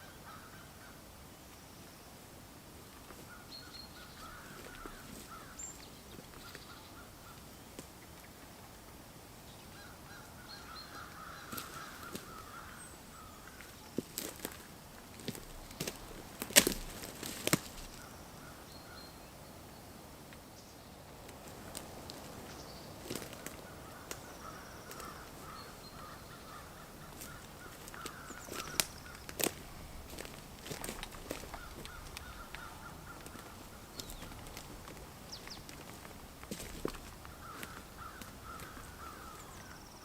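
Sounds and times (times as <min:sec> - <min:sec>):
birds chattering: 0:03.1 - 0:08.4, 0:09.6 - 0:19.6, 0:21.4 - 0:40.0.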